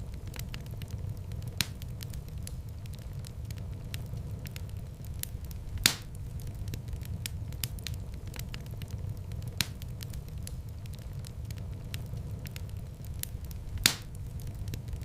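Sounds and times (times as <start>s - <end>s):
loud fire pops: 0.0s - 15.0s
wood fire crackling: 0.0s - 15.0s.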